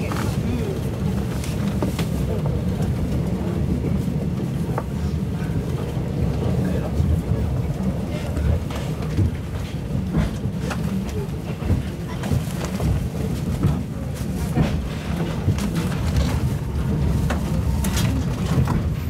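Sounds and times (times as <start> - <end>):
moving train rumble: 0.0 - 19.0.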